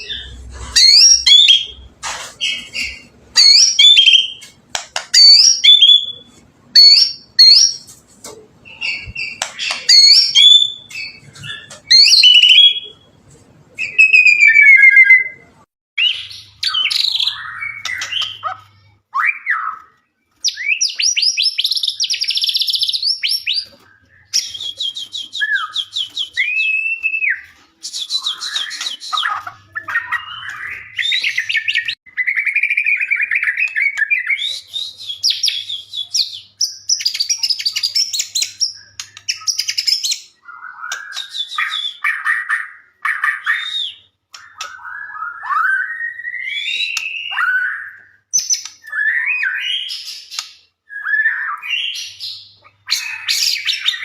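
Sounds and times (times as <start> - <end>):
songbird whistling and trilling: 0.0 - 4.5, 5.1 - 7.9, 8.6 - 13.1, 13.8 - 54.0.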